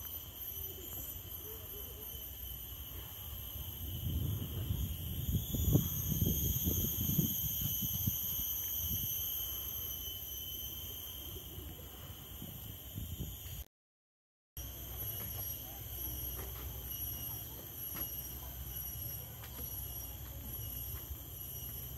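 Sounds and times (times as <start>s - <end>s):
insects droning: 0.0s - 13.6s, 14.6s - 21.9s.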